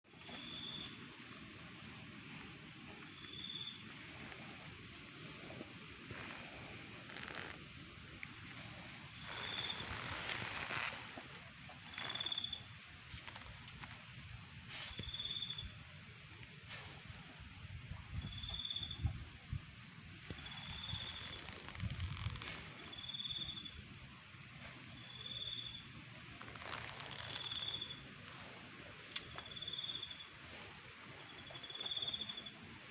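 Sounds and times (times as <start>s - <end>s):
cricket trilled chirps: 0.1s - 32.9s
high-pitched insect chorus: 0.1s - 32.9s.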